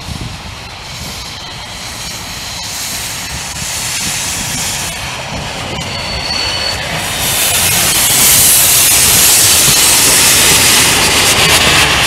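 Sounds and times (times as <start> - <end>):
steam hiss: 0.0 - 12.0
train low rumble: 0.0 - 12.0.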